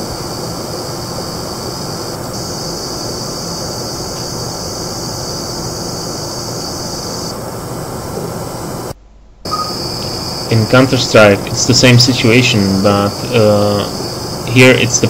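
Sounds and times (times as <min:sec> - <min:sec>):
fan noise hiss: 0:00.0 - 0:15.0
graphics card high-pitched whine: 0:00.0 - 0:15.0.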